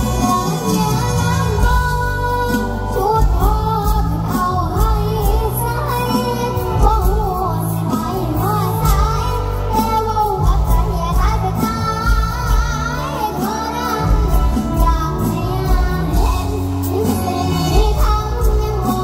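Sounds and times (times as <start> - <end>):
band with pulsing bass beat: 0.0 - 19.0
girl singing into a microphone: 0.0 - 19.0.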